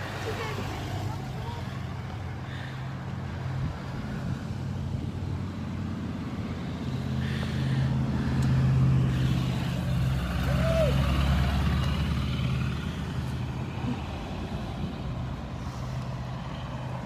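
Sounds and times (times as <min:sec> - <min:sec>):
cars and trucks driving past: 0:00.0 - 0:17.0.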